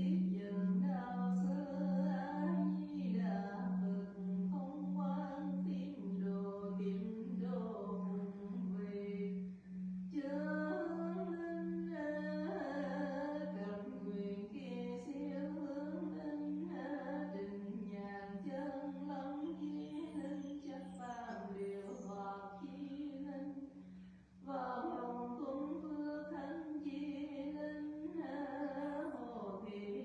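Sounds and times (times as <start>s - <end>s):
person singing slow melody: 0.0s - 30.0s.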